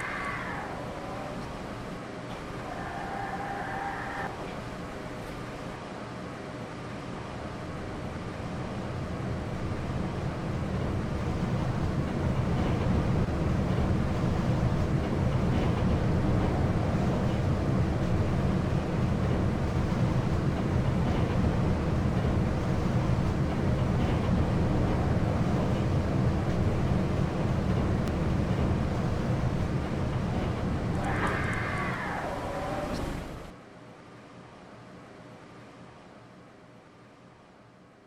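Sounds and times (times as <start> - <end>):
lift car low rumble: 0.0 - 33.6.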